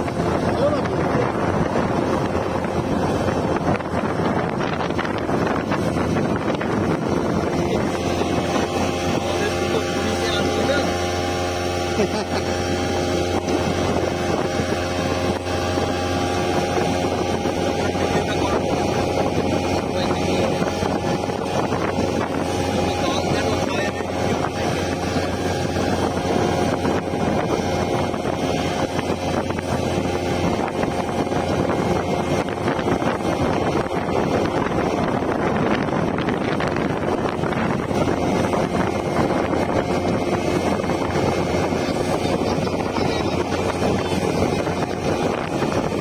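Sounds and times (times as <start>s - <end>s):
speedboat engine drone: 0.0s - 46.0s
water rushing past hull: 0.0s - 46.0s
wind buffeting microphone: 0.0s - 46.0s.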